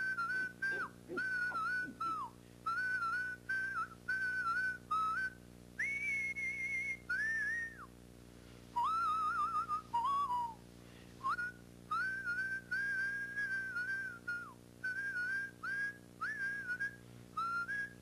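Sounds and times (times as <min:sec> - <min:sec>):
person whistling a tune: 0:00.0 - 0:07.9, 0:08.8 - 0:10.6, 0:11.2 - 0:18.0
steady low hum: 0:00.0 - 0:18.0.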